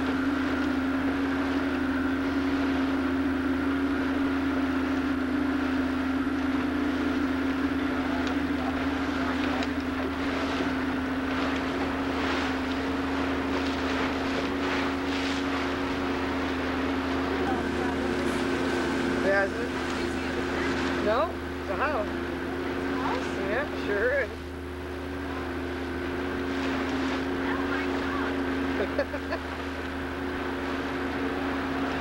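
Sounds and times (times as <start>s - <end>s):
motorboat engine droning: 0.0s - 32.0s.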